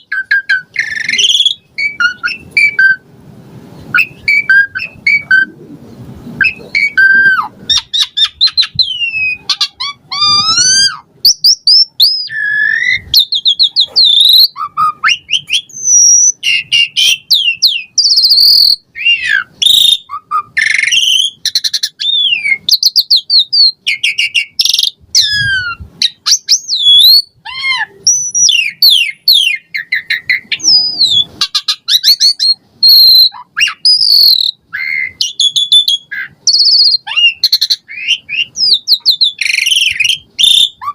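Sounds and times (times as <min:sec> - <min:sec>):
starling singing: 0:00.0 - 0:03.2, 0:03.8 - 0:40.9.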